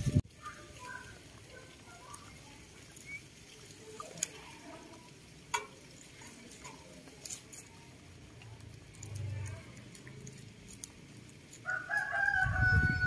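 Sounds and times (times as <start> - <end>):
leaf rustling: 0.0 - 13.0
soft chewing: 0.4 - 12.5.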